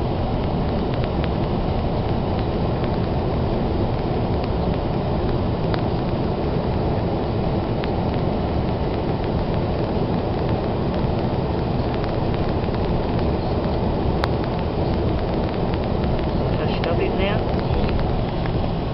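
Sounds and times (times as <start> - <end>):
blizzard wind rushing: 0.0 - 18.9.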